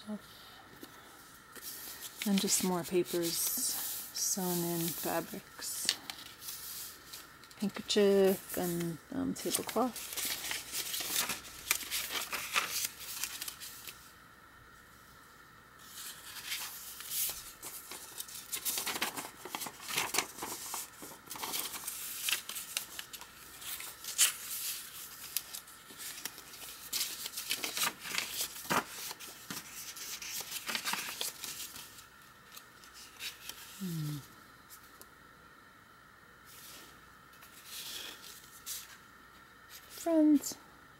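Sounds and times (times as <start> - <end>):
paper pages rustling: 0.8 - 14.1, 15.8 - 33.8, 36.5 - 39.0.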